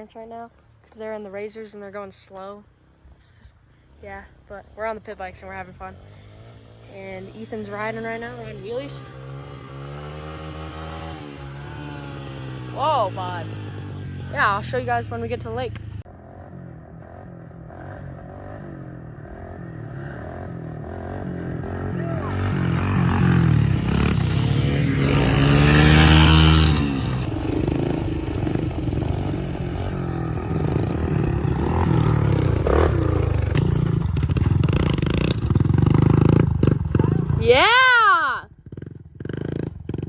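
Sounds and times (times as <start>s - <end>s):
pit bike engines running: 0.0s - 40.0s
bike passing by: 3.8s - 40.0s.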